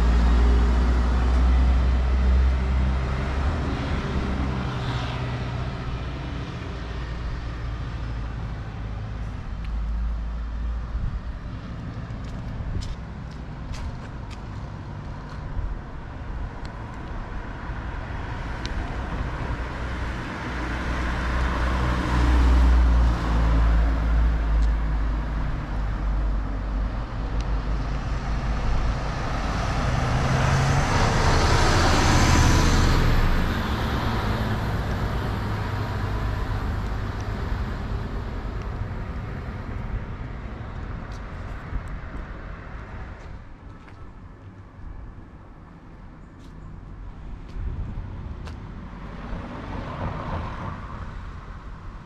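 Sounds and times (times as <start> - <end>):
bus driving past: 0.0 - 44.5.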